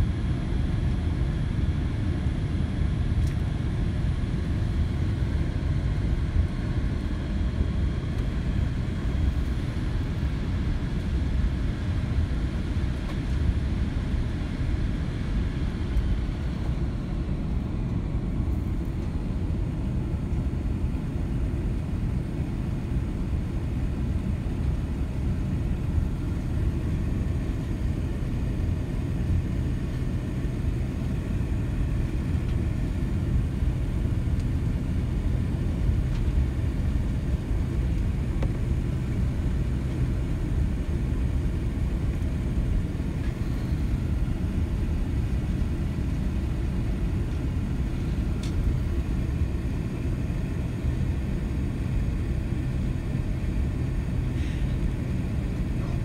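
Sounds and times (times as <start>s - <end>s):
aircraft engines idling: 0.0s - 56.0s.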